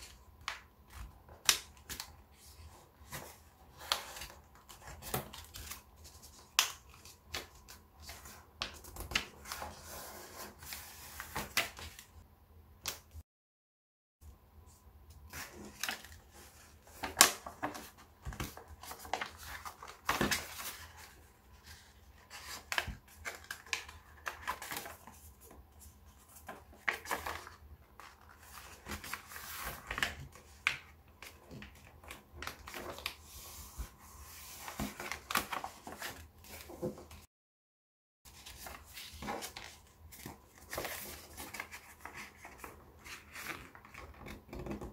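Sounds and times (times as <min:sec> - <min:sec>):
paper rustling and crinkling: 0:00.0 - 0:12.2, 0:15.3 - 0:37.3, 0:38.3 - 0:44.9.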